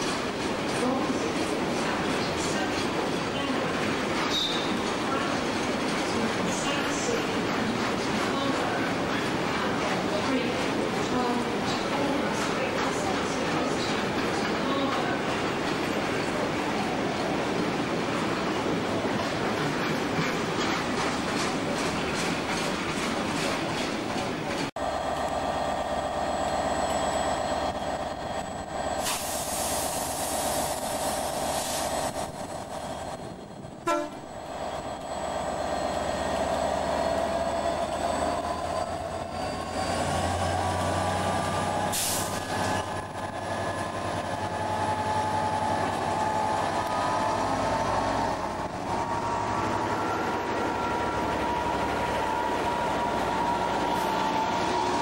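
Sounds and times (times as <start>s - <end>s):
diesel locomotive engine: 0.0s - 55.0s.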